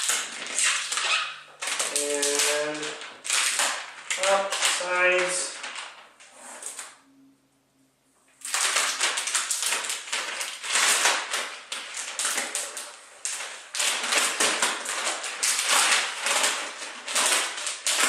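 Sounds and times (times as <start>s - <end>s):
plastic film crinkling: 0.0s - 7.0s, 8.4s - 18.0s.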